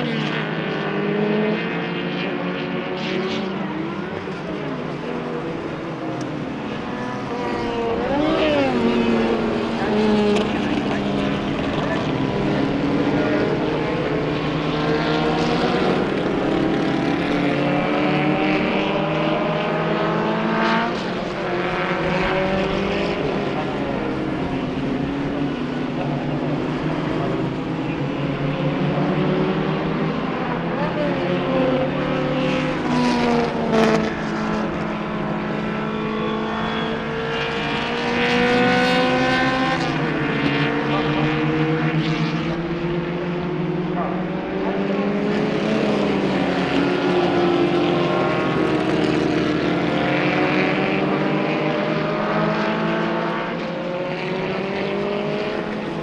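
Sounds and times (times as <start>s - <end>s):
racing car engines accelerating: 0.0s - 56.0s.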